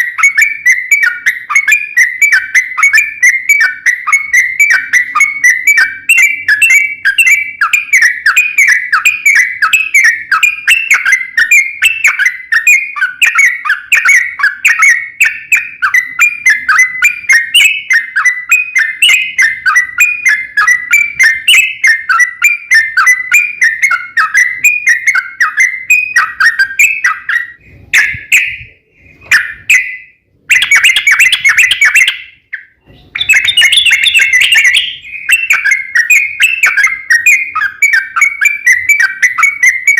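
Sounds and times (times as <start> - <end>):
bird singing bubbling whistled notes: 0.0 - 39.9.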